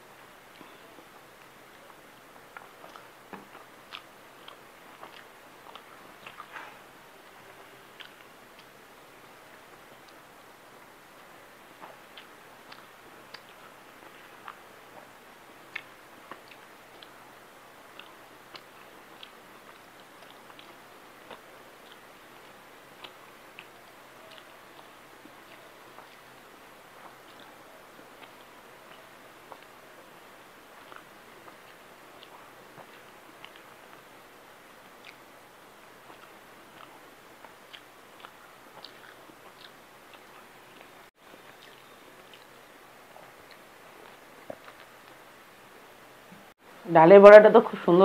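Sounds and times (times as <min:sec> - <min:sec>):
person chewing food: 0:00.4 - 0:45.6.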